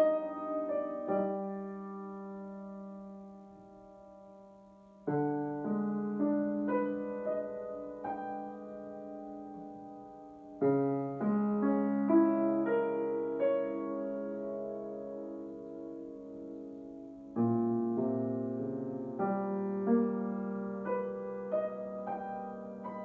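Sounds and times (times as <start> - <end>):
grand piano chords: 0.0 - 23.0.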